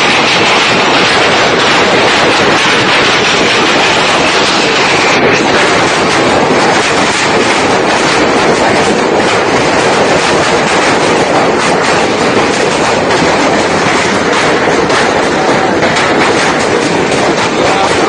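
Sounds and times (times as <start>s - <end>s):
hailstones clattering on roofs: 0.0s - 18.0s.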